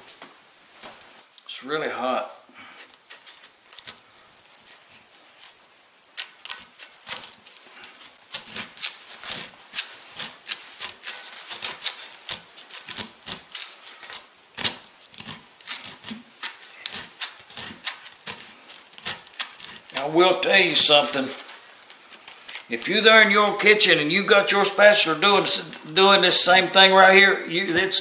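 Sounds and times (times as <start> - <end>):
spatula scraping cast iron skillet: 2.6 - 28.0.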